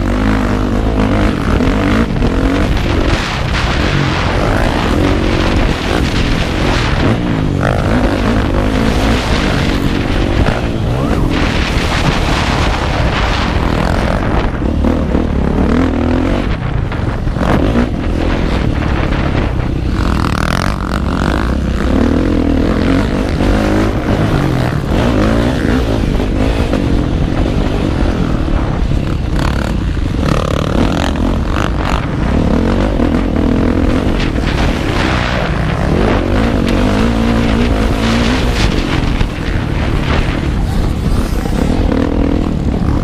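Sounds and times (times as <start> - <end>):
motocross bike engine revving: 0.0 - 43.0
rushing wind: 0.0 - 43.0.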